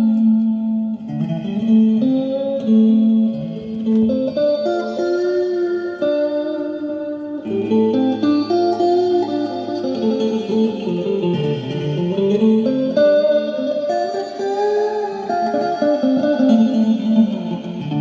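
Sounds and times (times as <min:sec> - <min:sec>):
guitar improvising: 0:00.0 - 0:18.0.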